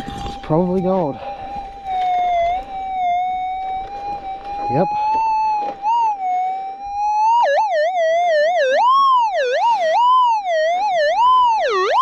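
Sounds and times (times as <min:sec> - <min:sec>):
metal detector wavering tone: 0:00.0 - 0:12.0.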